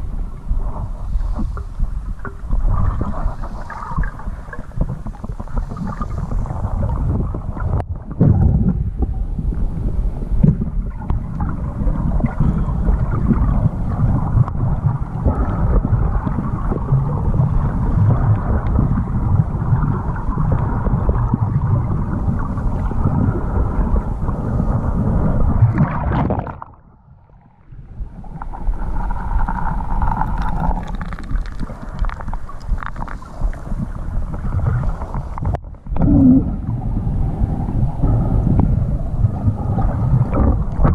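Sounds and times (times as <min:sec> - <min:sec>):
underwater swimming swish: 0:00.0 - 0:40.9.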